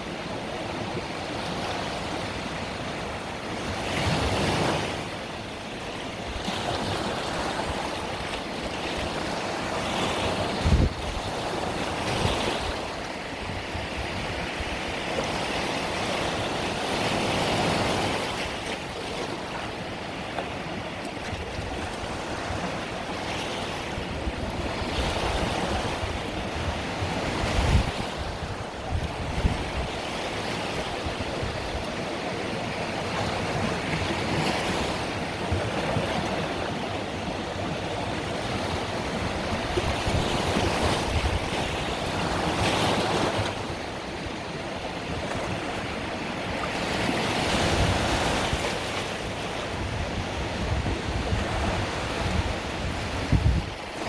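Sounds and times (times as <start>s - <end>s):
small waves breaking on shore: 0.0s - 54.0s.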